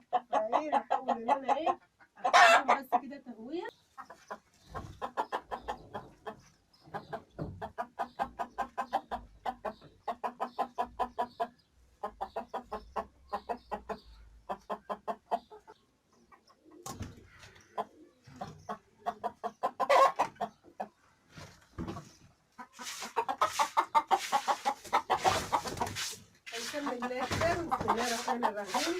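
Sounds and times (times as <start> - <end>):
hens clucking: 0.0 - 28.9.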